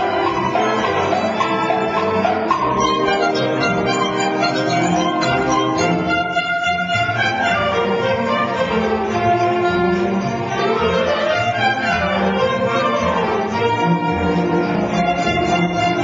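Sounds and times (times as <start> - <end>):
bowed strings: 0.0 - 16.0
orchestra playing: 0.0 - 16.0.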